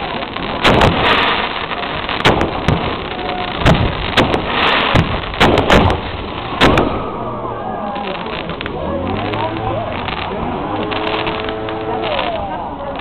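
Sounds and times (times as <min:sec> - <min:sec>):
firework shells banging: 0:00.0 - 0:13.0.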